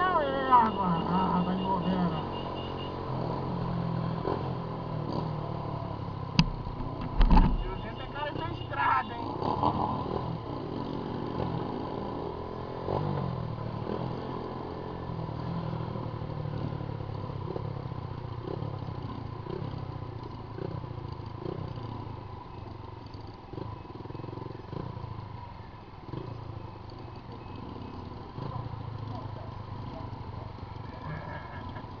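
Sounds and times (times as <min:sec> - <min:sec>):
motorcycle engine revving: 0:00.0 - 0:25.3, 0:26.1 - 0:32.0.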